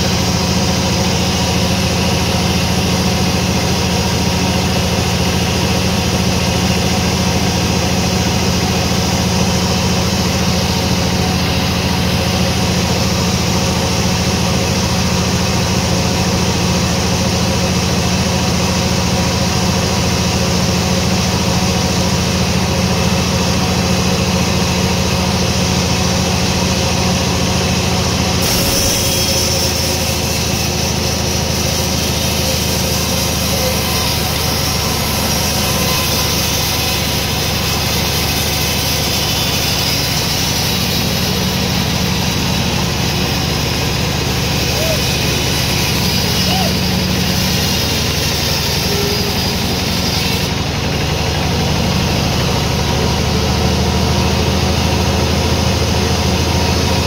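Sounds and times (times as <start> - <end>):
sawmill machinery engine hum: 0.0 - 57.0.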